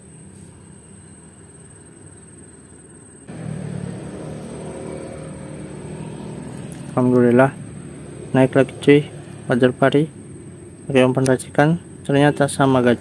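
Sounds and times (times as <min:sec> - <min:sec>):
low background rumble with hum: 0:00.0 - 0:13.0
thin high-pitched whine: 0:00.0 - 0:13.0.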